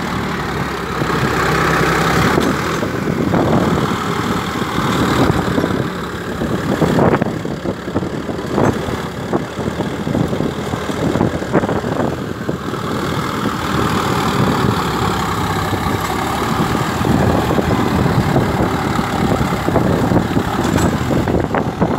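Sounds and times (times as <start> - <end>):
tractor diesel engine under load: 0.0 - 21.9.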